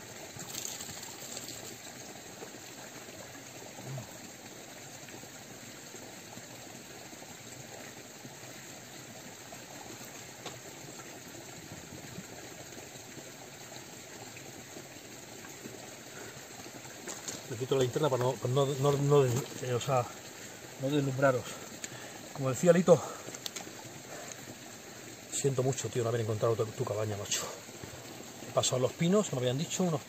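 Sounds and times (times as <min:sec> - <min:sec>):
canteen filling with water: 0:00.0 - 0:30.0
mountain stream running: 0:00.0 - 0:30.0.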